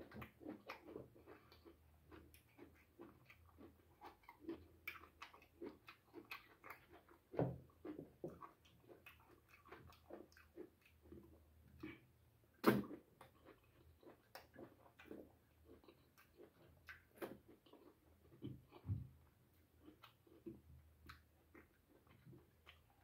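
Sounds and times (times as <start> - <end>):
person chewing and lip-smacking: 0.0 - 23.0.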